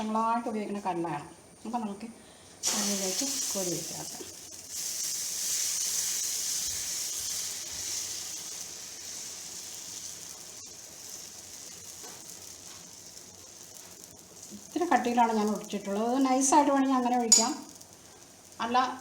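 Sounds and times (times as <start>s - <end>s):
batter sizzling on griddle: 2.6s - 19.0s.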